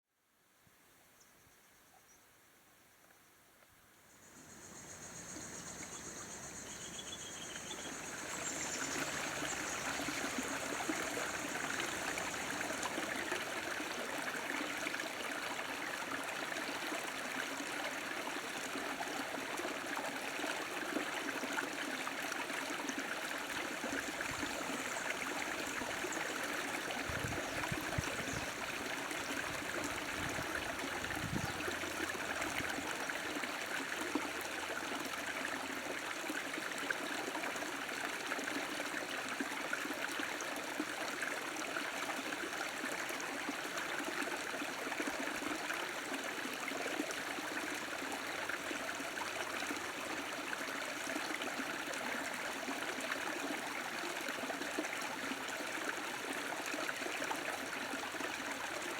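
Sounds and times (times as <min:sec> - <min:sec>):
stream flowing and trickling: 0:04.0 - 0:58.9.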